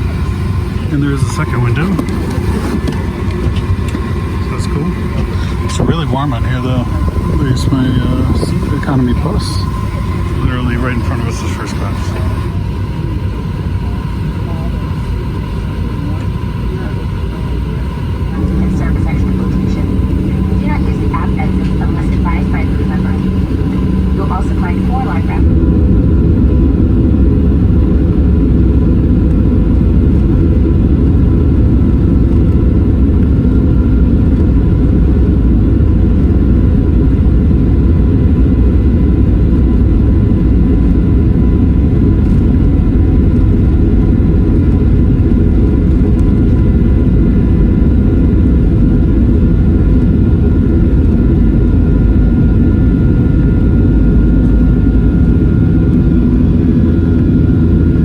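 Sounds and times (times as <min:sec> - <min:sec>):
faint jet engine whine: 0:00.0 - 0:58.0
jet engine roar in cabin: 0:00.0 - 0:58.0.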